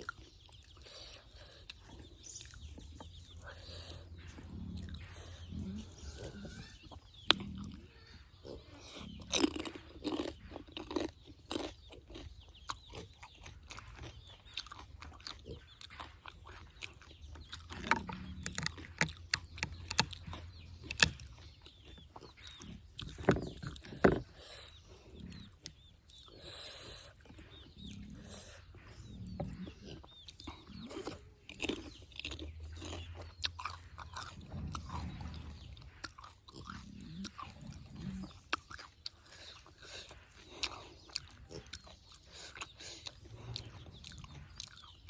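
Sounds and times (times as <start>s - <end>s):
chewing and crunching crisp food: 0.0s - 45.0s.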